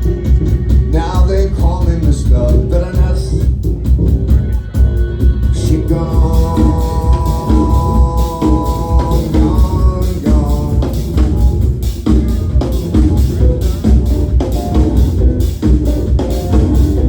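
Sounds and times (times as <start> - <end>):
drum kit beating: 0.0 - 17.0
heavy bass line: 0.0 - 17.0.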